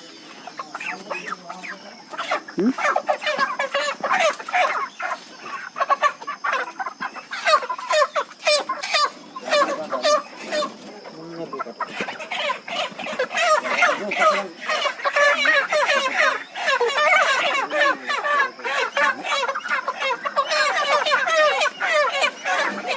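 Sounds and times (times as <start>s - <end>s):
chickens clucking and squawking: 0.0s - 22.9s.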